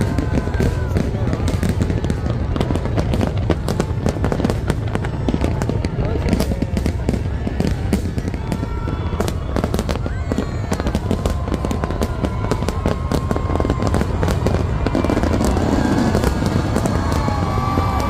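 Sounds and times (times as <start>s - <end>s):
fireworks cracking and popping: 0.0s - 18.0s.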